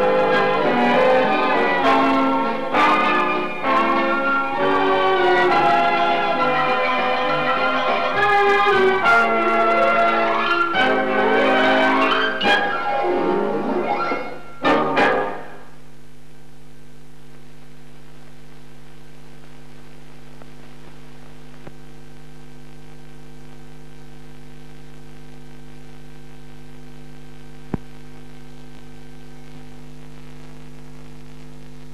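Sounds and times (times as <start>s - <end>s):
electrical mains hum: 0.0s - 31.9s.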